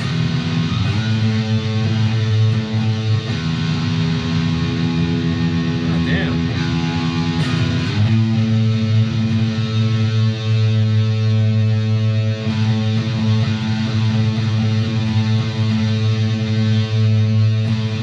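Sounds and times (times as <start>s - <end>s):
distorted electric guitar chord: 0.0s - 18.0s.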